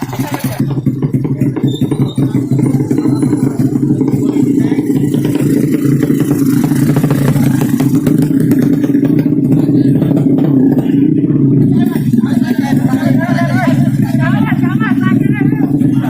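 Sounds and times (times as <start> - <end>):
loud motorcycle engine running: 0.0 - 16.0.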